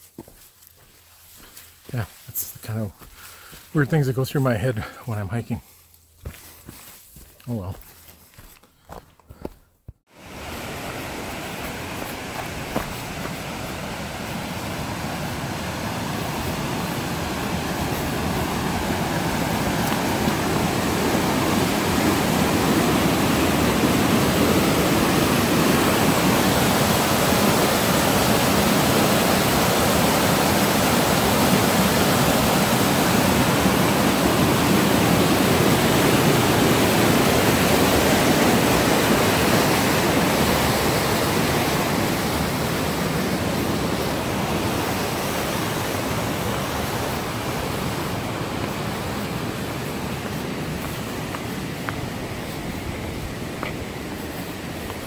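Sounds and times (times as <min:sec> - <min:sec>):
creek rushing over boulders: 0:10.1 - 0:55.0.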